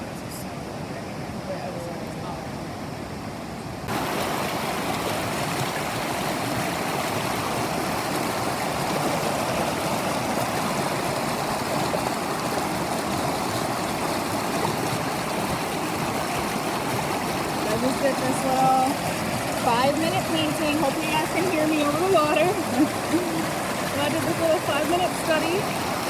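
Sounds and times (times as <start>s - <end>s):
waterfall and stream rushing: 0.0s - 26.0s.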